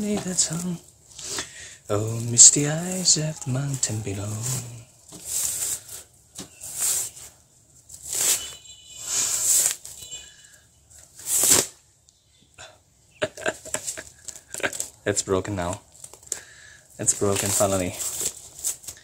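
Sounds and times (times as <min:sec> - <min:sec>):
rough skin scraping nylon: 0:00.0 - 0:11.8, 0:13.6 - 0:19.0
nylon crackling: 0:00.0 - 0:12.2, 0:13.4 - 0:19.0.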